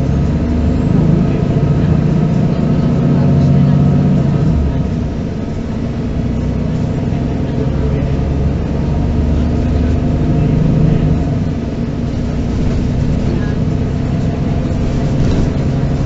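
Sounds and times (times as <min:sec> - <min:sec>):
bus diesel engine: 0:00.0 - 0:16.0.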